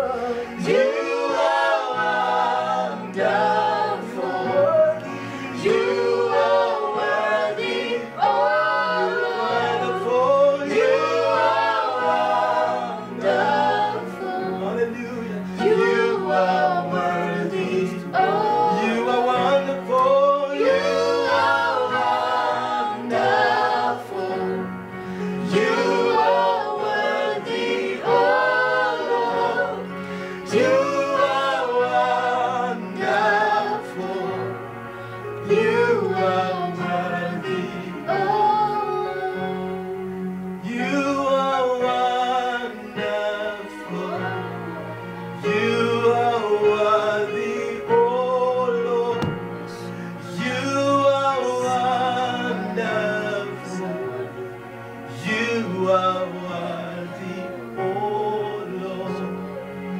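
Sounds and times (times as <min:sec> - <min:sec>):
choir singing gospel song: 0:00.0 - 0:59.9.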